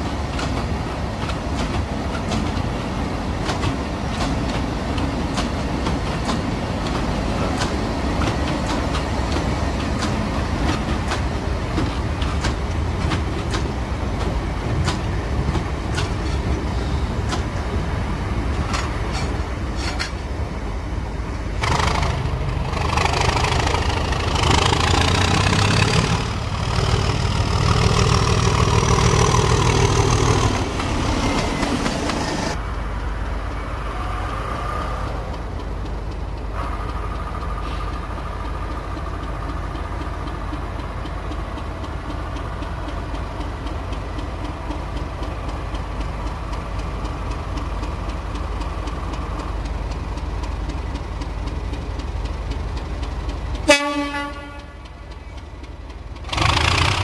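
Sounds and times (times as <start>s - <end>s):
diesel locomotive engine whining: 0.0s - 57.0s.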